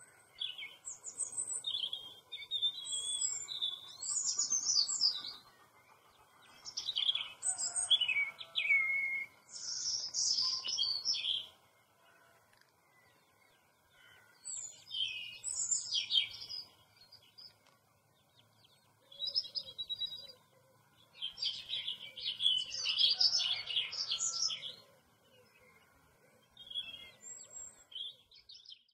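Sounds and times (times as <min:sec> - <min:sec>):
small birds twittering: 0:00.0 - 0:28.9.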